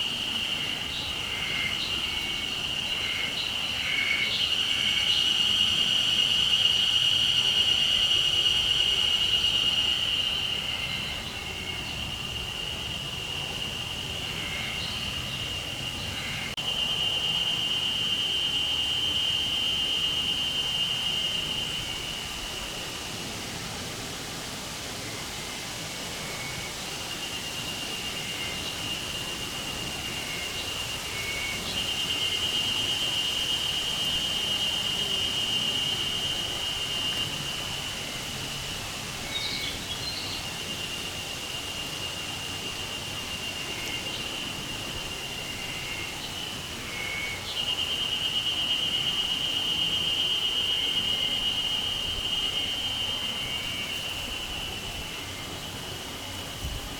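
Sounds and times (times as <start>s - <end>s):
cicadas buzzing drone: 0.0s - 56.9s.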